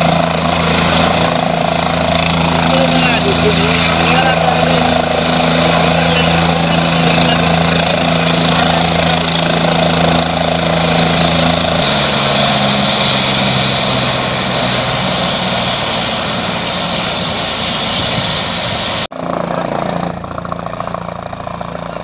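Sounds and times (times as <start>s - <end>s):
helicopter engine and rotor hum: 0.0s - 22.0s.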